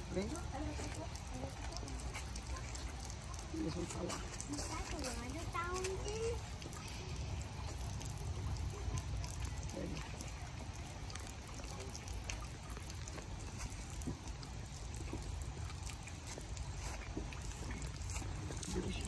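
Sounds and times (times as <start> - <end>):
trickling water: 0.0 - 19.0.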